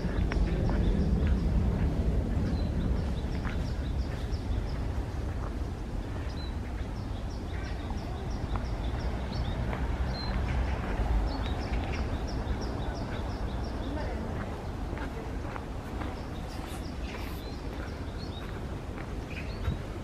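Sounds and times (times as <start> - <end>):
footsteps on forest path: 0.0 - 20.0
songbird chirping: 0.0 - 20.0.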